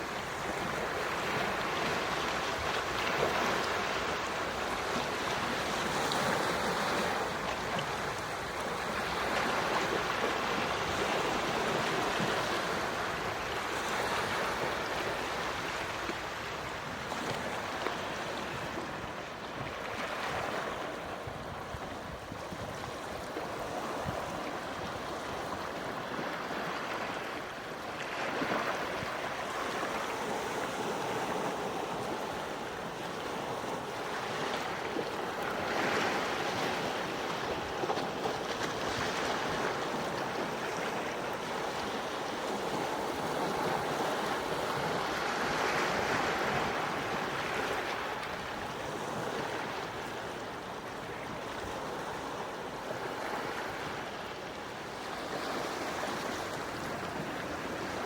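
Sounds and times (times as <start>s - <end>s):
gentle waves washing onto shore: 0.0s - 58.0s.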